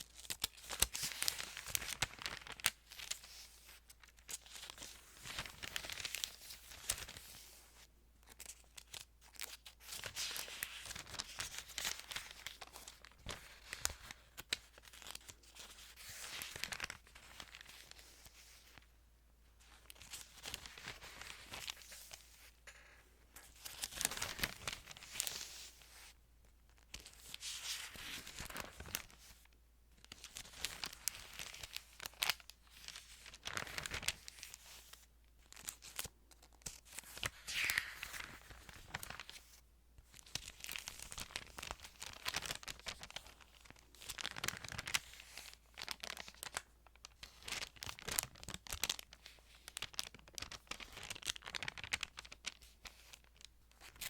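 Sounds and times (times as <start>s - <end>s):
thin paper pages rustling: 0.2s - 7.6s, 8.3s - 18.8s, 19.6s - 26.1s, 26.8s - 29.5s, 30.1s - 54.0s.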